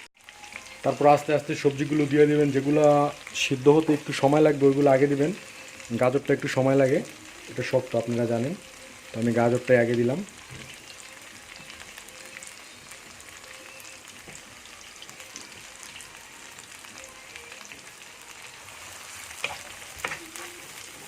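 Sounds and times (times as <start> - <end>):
carrots sizzling in a pan: 0.0 - 21.0.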